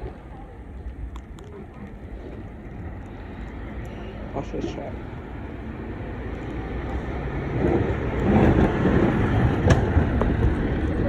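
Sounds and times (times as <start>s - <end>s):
garbage truck diesel engine rumble: 0.0s - 11.0s.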